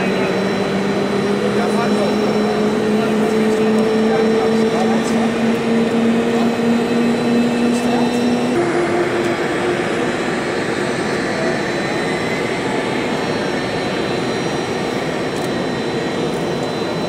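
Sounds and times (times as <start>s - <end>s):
high jet whine: 0.0s - 17.0s
jet engines idling: 0.0s - 17.0s.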